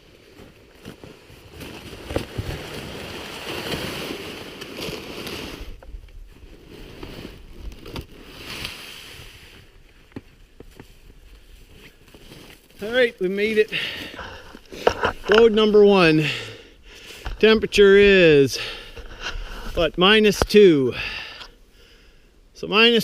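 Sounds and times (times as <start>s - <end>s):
swishing and crunching through snow: 0.0s - 20.2s.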